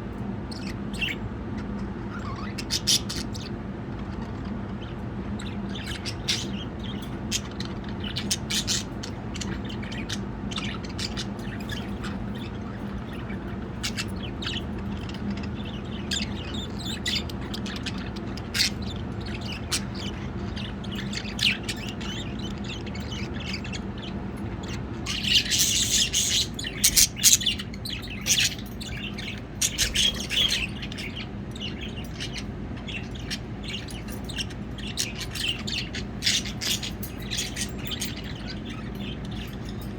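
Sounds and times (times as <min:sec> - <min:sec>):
steady low hum: 0:00.0 - 0:39.9
budgerigars chirping and chattering: 0:00.1 - 0:39.9.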